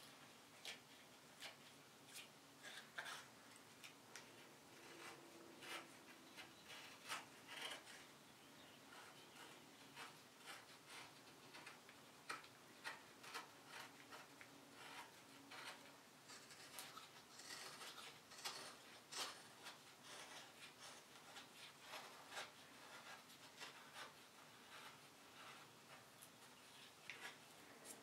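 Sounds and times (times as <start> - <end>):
carving tool scraping wood: 0.6 - 28.0.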